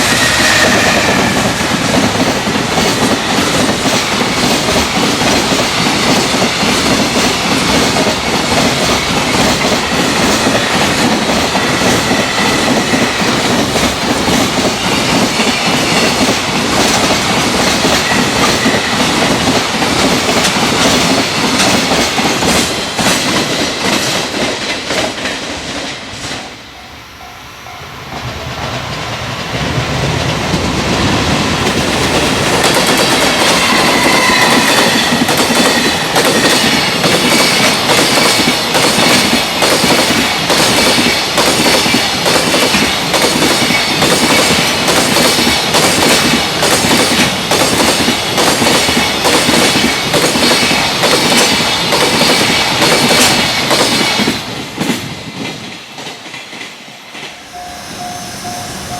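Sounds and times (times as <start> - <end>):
freight train wheels clattering: 0.0 - 26.6, 28.1 - 57.7.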